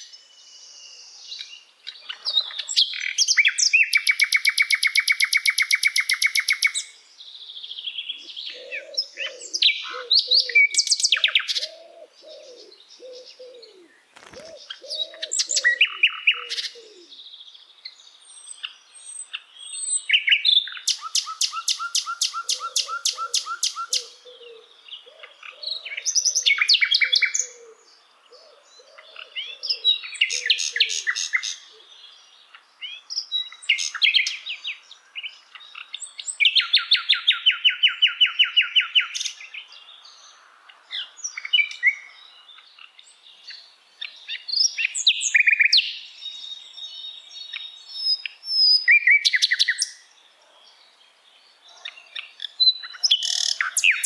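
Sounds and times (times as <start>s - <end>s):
songbird singing high chirps: 0.0s - 54.0s.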